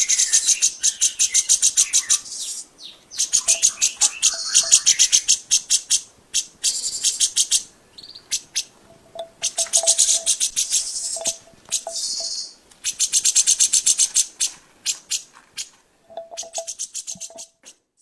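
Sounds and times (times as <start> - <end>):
bird rattling calls: 3.2 - 17.6.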